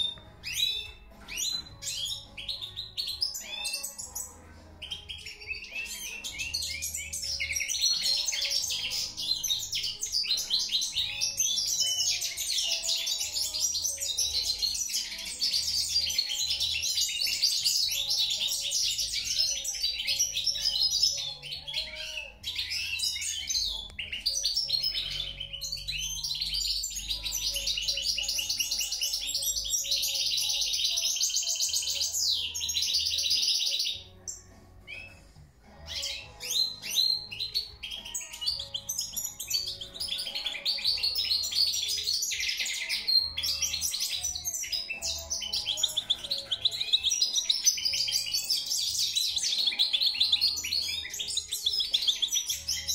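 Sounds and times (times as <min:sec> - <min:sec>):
finch twittering song: 0:00.0 - 0:52.9.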